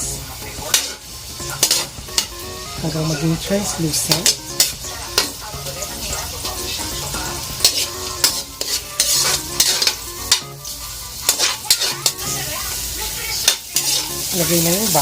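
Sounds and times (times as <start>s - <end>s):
onions sizzling in oil: 0.0s - 15.0s
utensil scraping a pan: 0.7s - 12.6s, 13.4s - 14.6s.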